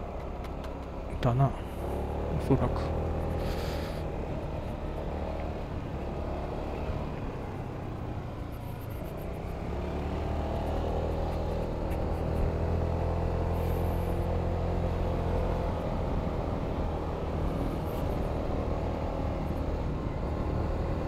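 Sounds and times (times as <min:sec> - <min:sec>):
road noise: 0:00.0 - 0:21.0
scooter engine accelerating: 0:00.0 - 0:21.0.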